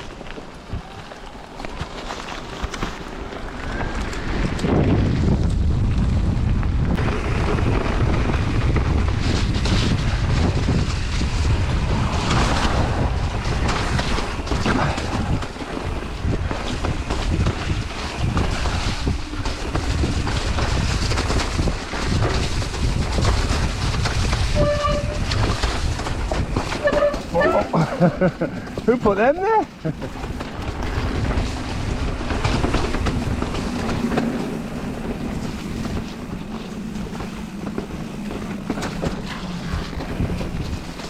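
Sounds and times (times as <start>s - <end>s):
bike knocking and rattling: 0.0s - 41.0s
wind buffeting microphone: 0.0s - 41.0s.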